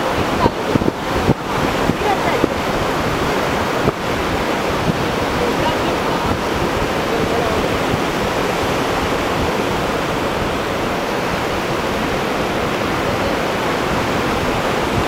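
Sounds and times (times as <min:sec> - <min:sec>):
surf washing over sandy beach: 0:00.0 - 0:15.0.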